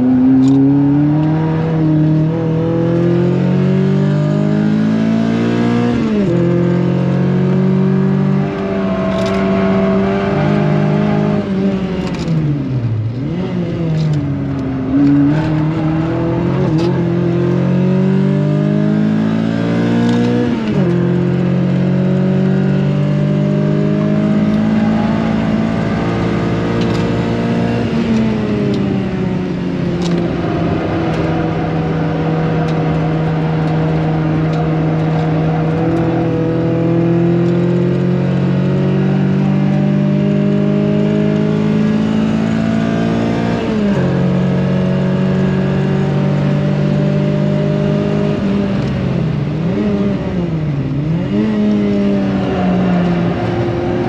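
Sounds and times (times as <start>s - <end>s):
car engine revving hard: 0.0s - 12.4s, 13.2s - 54.0s.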